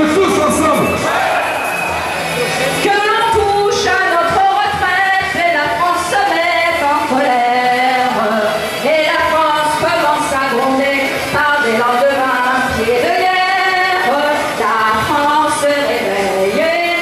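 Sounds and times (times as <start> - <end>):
song over loudspeakers: 0.0 - 17.0.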